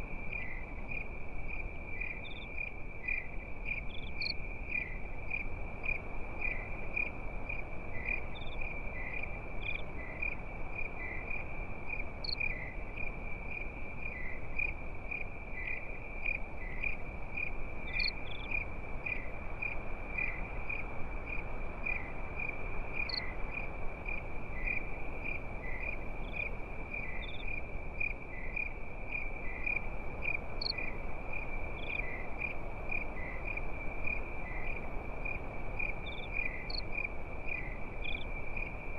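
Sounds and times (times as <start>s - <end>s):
crickets chirping: 0.0s - 38.9s
steady low hiss: 0.0s - 38.9s.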